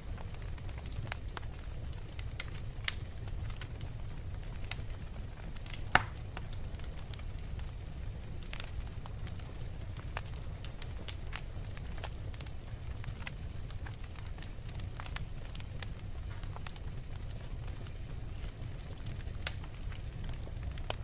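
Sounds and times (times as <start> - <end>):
fire crackling and popping: 0.0 - 21.0
log fire rumbling: 0.0 - 21.0.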